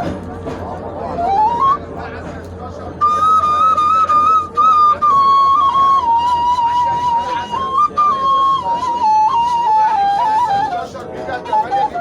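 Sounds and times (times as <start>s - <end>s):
reed flute slow melody: 0.9s - 12.0s.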